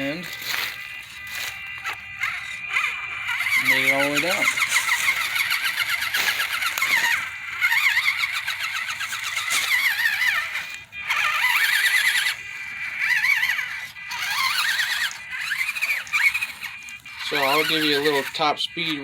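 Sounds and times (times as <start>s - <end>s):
electric motor and gears whining: 0.0s - 19.0s.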